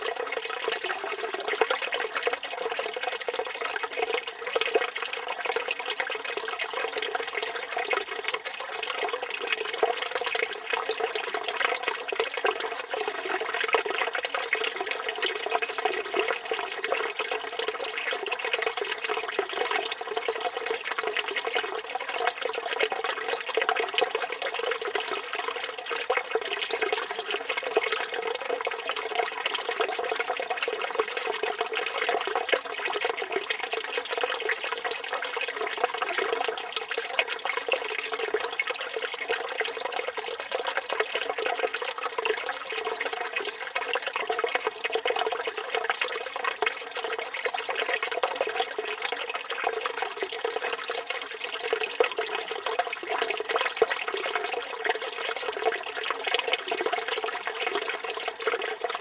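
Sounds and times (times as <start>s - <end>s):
fountain water splashing into basin: 0.0s - 59.0s.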